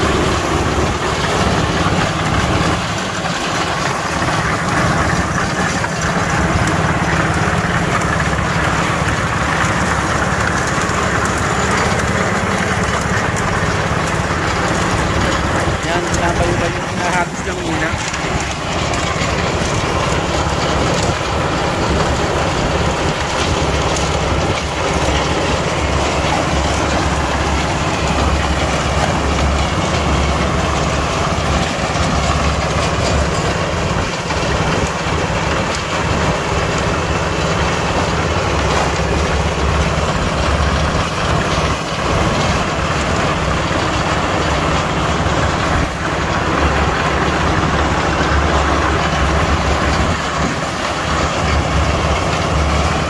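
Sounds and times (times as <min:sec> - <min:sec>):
concrete mixer engine humming: 0:00.0 - 0:53.0.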